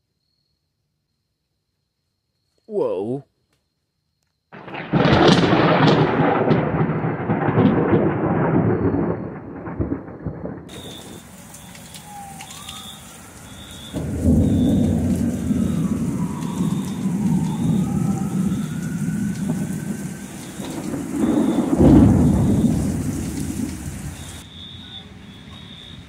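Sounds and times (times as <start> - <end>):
steady rain: 4.6 - 26.0
thunder cracking and rumbling: 4.6 - 26.0.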